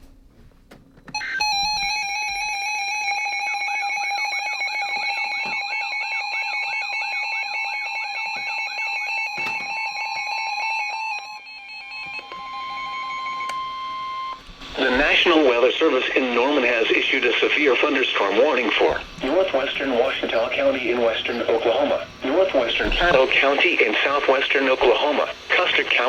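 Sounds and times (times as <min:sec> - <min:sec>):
rapid electronic alarm beeping: 0:01.2 - 0:26.0.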